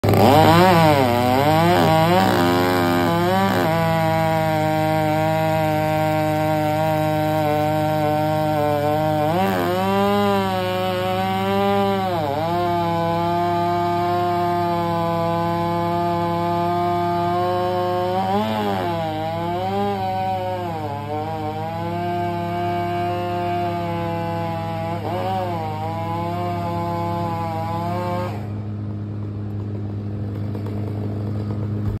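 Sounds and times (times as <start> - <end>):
chainsaw cutting through tree trunk: 0.0 - 32.0.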